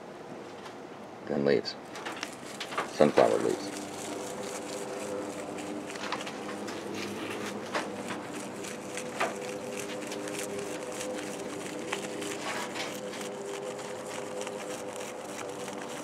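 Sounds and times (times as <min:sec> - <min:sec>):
steady low hum: 0:00.0 - 0:16.0
rabbit munching leaves: 0:01.3 - 0:16.0.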